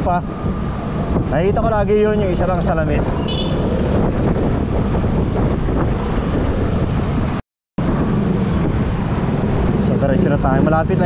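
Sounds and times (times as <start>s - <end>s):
road noise in traffic: 0.0s - 11.0s
wind buffeting microphone: 0.0s - 11.0s.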